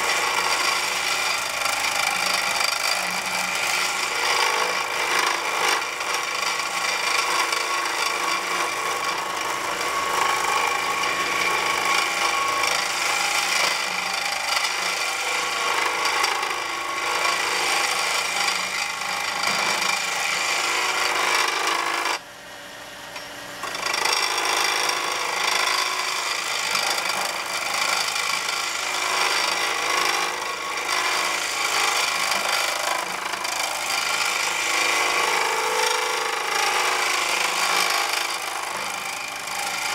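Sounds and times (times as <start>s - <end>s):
chisel scraping wood: 0.0s - 22.2s, 23.6s - 39.9s
lathe humming: 0.0s - 39.9s.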